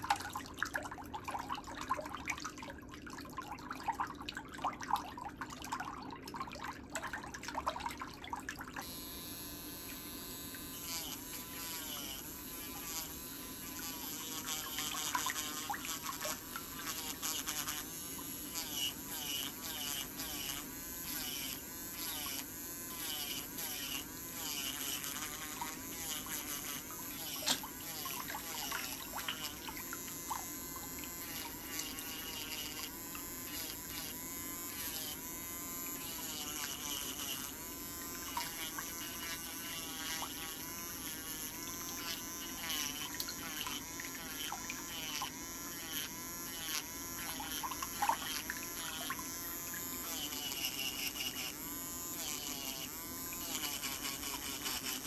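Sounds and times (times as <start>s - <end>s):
electric nail file whining: 8.8s - 55.0s.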